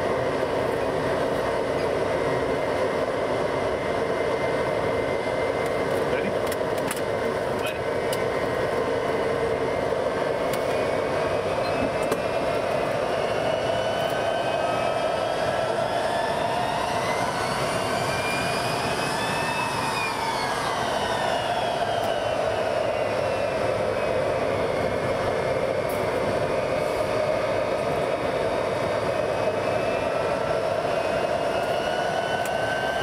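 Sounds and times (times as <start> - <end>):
jet engine rush: 0.0 - 33.0
multi-tone engine whine: 0.0 - 33.0.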